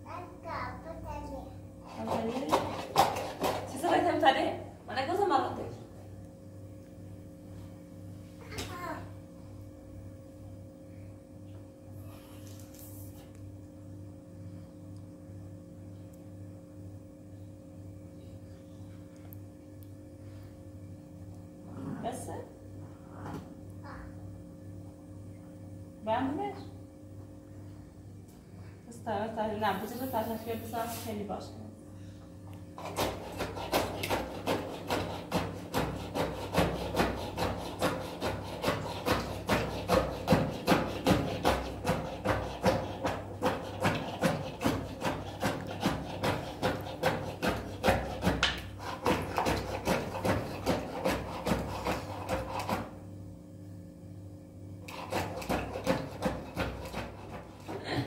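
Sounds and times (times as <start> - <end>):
machine hum with low throb: 0.0 - 58.0.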